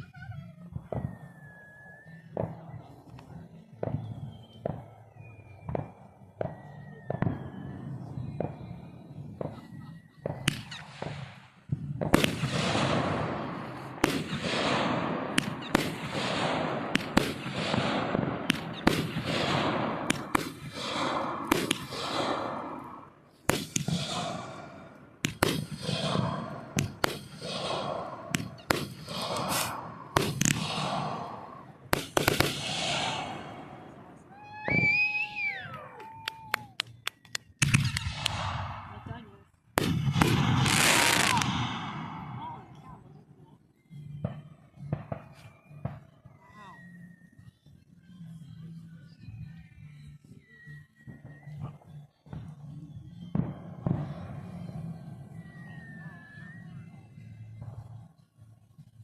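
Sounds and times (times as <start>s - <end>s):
fireworks bangs and crackling: 0.0s - 43.2s, 43.9s - 46.9s, 50.5s - 59.0s.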